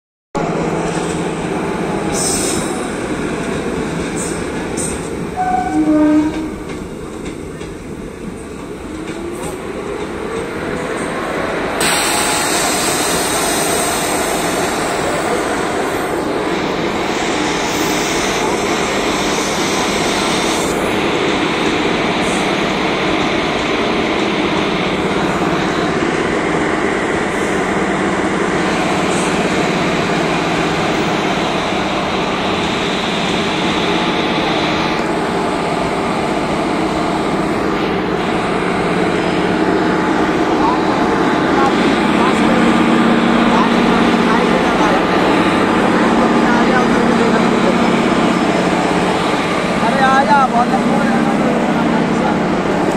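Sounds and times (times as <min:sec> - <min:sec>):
locomotive engine drone and hiss: 0:07.4 - 0:52.9.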